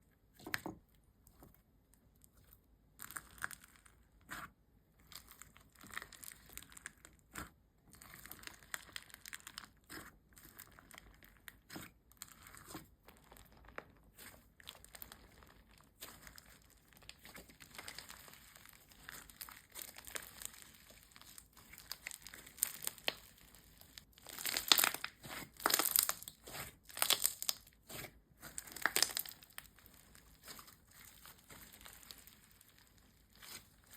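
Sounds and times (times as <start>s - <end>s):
slime squished by hand: 3.0s - 33.9s.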